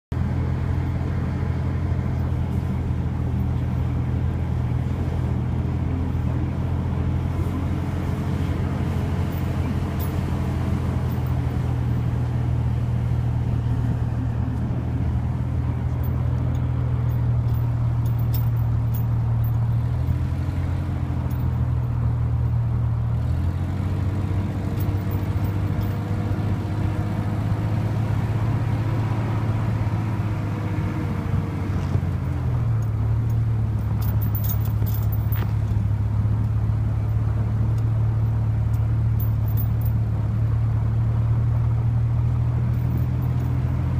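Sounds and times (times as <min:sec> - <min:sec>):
truck engine drone: 0:00.1 - 0:43.9
wind: 0:00.1 - 0:43.9.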